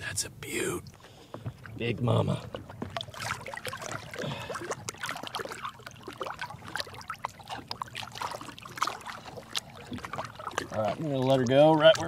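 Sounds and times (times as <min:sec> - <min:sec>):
water splashing and trickling: 0:00.4 - 0:12.0.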